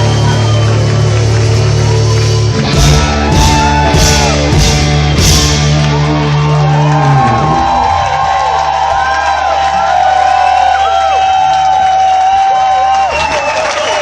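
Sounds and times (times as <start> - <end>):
loud live rock band: 0.0 - 12.4.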